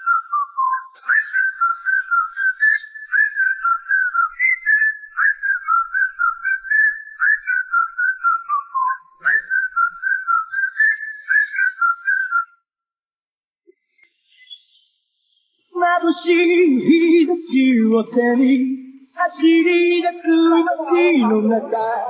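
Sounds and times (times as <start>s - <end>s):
whistled melody: 0.0s - 12.6s, 16.8s - 22.0s.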